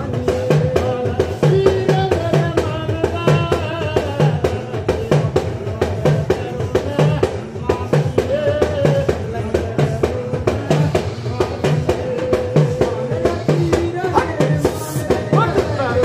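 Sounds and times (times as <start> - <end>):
low drum beat: 0.0 - 16.0
quick percussion hits: 0.0 - 16.0.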